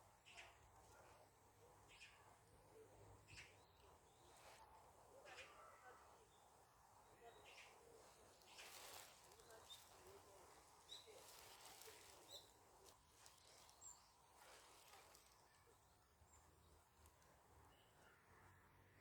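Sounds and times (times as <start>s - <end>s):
faint birds chirping: 0.0s - 18.6s.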